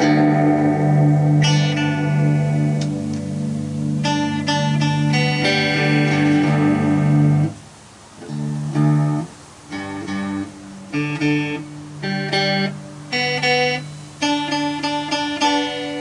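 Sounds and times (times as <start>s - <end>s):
plucked lap guitar: 0.0s - 16.0s.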